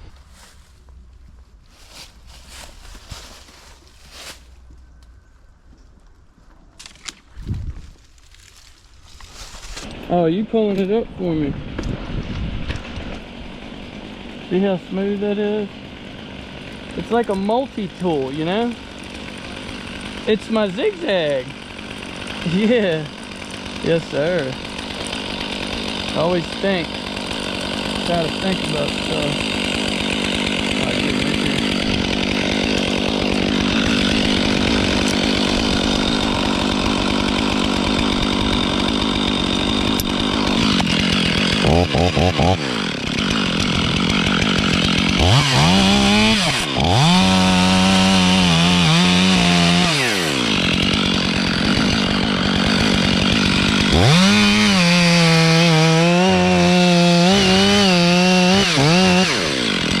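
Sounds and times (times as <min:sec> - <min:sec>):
chainsaw cutting wood: 0:07.9 - 1:00.0.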